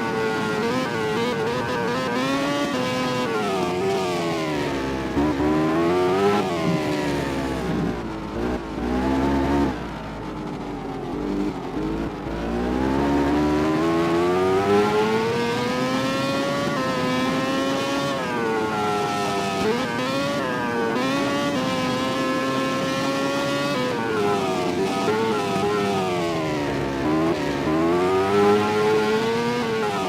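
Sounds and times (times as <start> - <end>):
racing motorcycle engine revving: 0.0 - 30.0.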